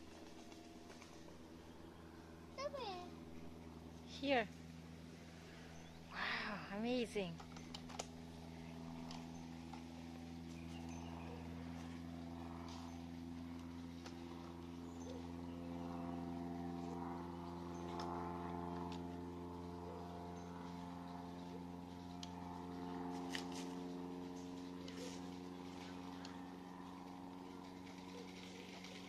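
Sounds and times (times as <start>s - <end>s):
distant propeller plane engine: 0.0s - 29.0s.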